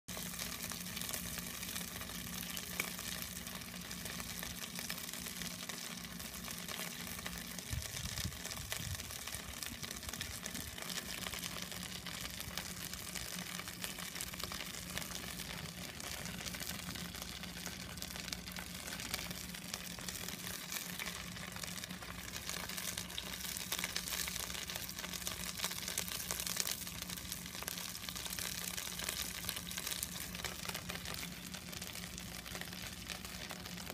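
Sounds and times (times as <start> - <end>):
chicken deep-frying in oil: 0.1 - 33.9
low steady hum: 0.1 - 33.9.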